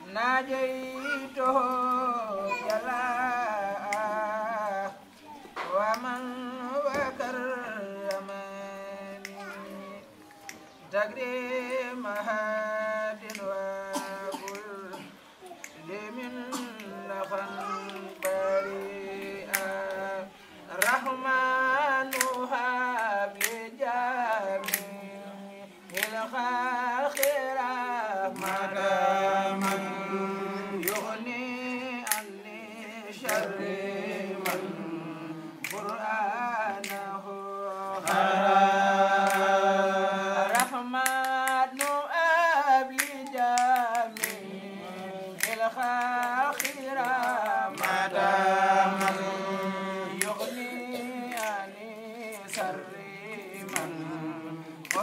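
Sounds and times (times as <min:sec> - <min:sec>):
person chanting: 0:00.0 - 0:55.0.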